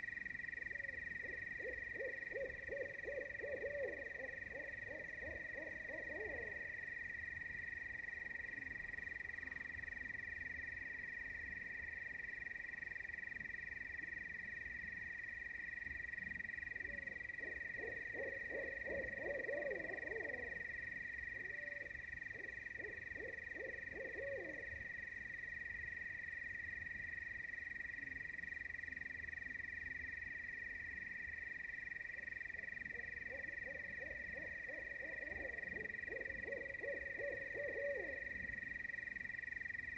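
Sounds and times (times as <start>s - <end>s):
night insects chorus: 0.0s - 39.9s.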